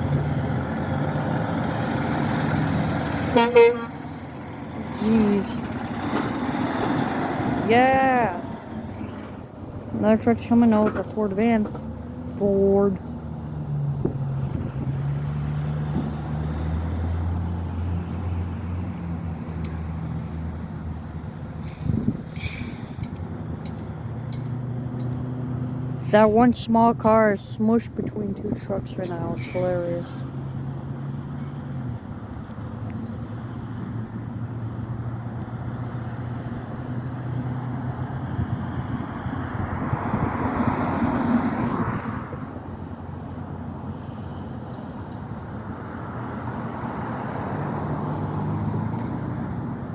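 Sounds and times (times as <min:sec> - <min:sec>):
highway traffic: 0:00.0 - 0:49.9
tyre and road noise: 0:00.0 - 0:49.9
vehicle engine drone: 0:00.0 - 0:49.9.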